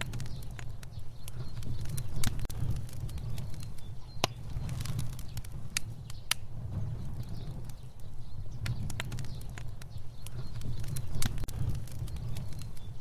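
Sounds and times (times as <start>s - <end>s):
fire crackling and popping: 0.0s - 13.0s
fire rumbling: 0.0s - 13.0s.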